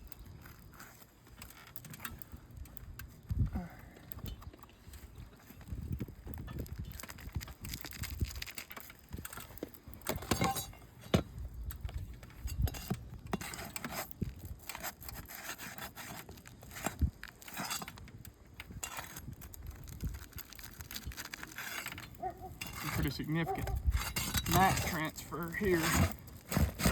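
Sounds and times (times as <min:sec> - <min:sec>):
roof shingles scraping and crackling: 0:00.0 - 0:26.9.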